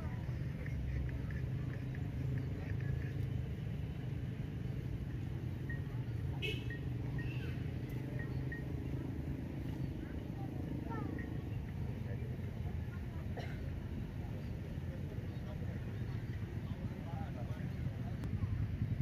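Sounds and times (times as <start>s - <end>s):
low outdoor background rumble: 0.0s - 19.0s.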